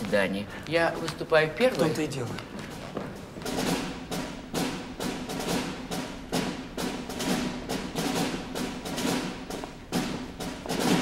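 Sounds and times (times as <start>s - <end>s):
drum beating steadily: 0.0s - 11.0s.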